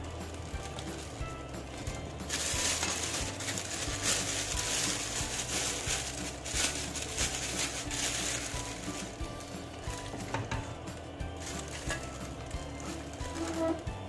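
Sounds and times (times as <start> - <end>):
plastic bag rustling and crinkling: 0.0 - 14.0.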